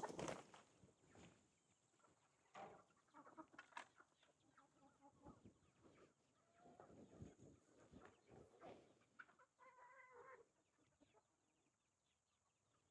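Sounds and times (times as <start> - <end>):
chickens clucking: 0.0 - 12.9.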